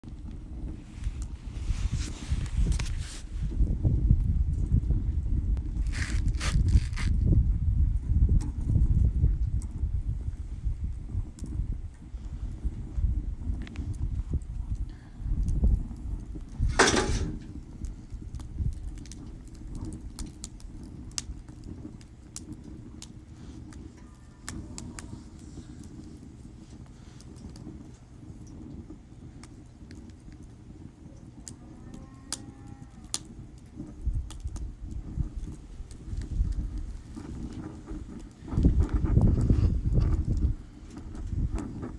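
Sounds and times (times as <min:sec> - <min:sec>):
low fire rumble: 0:00.0 - 0:41.9
wood fire crackling: 0:00.0 - 0:41.9.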